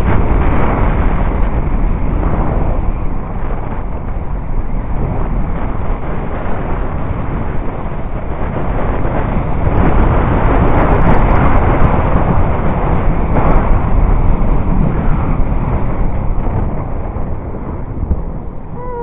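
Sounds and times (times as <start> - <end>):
rushing air: 0.0 - 19.0
sled rumbling over ice: 0.0 - 19.0.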